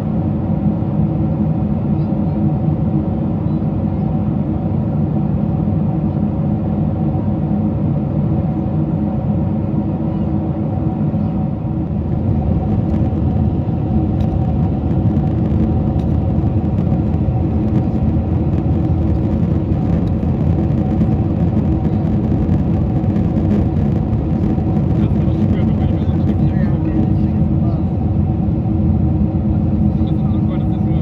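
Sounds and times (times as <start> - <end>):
airflow and engines rumbling: 0.0 - 31.0
low hums: 1.6 - 31.0.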